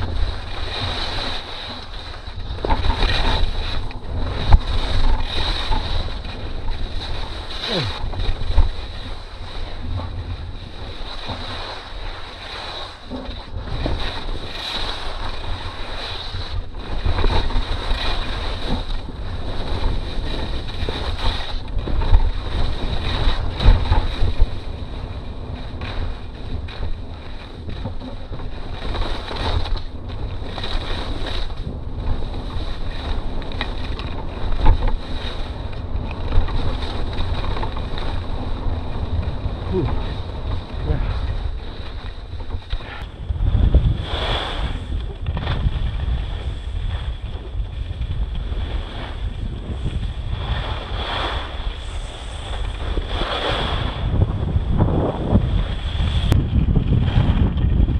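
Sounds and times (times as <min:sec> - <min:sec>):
skis scraping on hard snow: 0:00.0 - 0:57.9
wind rushing over microphone: 0:00.0 - 0:57.9.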